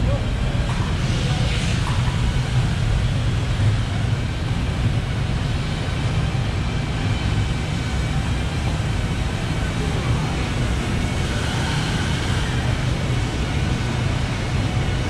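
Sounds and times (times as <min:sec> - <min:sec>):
factory floor rumble: 0:00.0 - 0:15.0.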